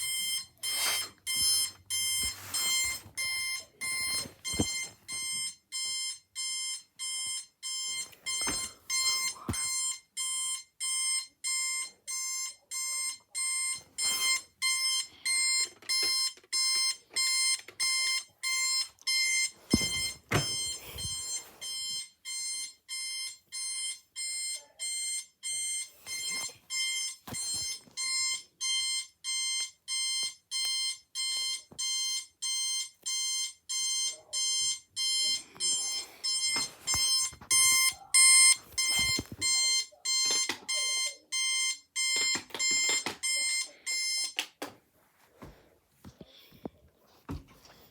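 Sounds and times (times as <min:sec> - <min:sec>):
electronic alarm beeping: 0:00.0 - 0:44.4.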